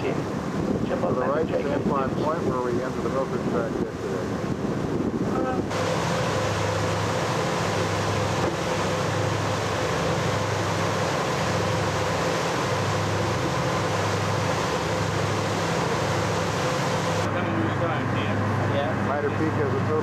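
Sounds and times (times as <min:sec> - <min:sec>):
boat engine humming: 0:00.0 - 0:20.0
rushing water: 0:00.0 - 0:20.0
wind: 0:00.0 - 0:20.0.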